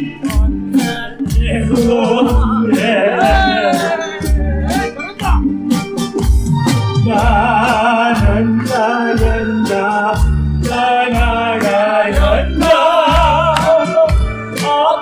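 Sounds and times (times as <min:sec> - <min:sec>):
elderly man singing with vibrato: 0:00.0 - 0:05.0, 0:07.0 - 0:15.0
musical accompaniment with drum beat: 0:00.0 - 0:15.0.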